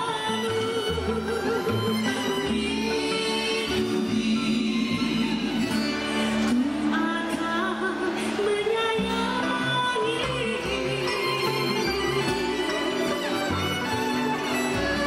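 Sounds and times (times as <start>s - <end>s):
woman singing into microphone: 0.0s - 13.5s
live band playing: 0.0s - 15.0s
violin playing: 0.0s - 15.0s.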